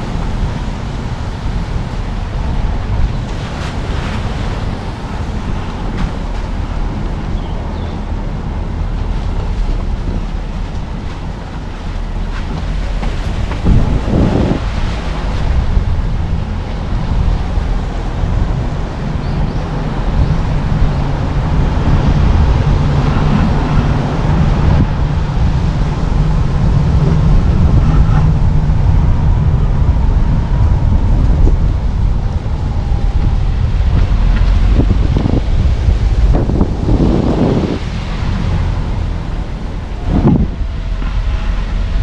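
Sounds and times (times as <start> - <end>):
car road and engine noise: 0.0 - 42.0
wind buffeting microphone: 0.0 - 42.0.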